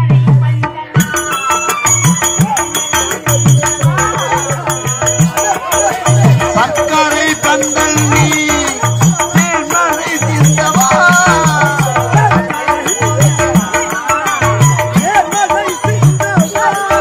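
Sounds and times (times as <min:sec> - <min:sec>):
hand drum rhythm: 0:00.0 - 0:17.0.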